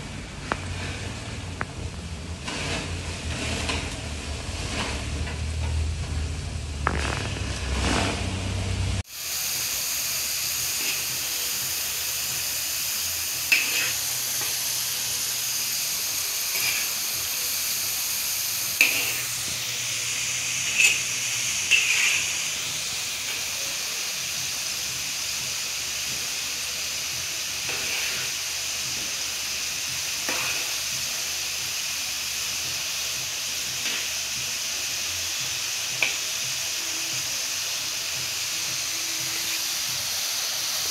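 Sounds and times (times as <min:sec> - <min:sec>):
fries sizzling in hot oil: 0:00.0 - 0:40.9.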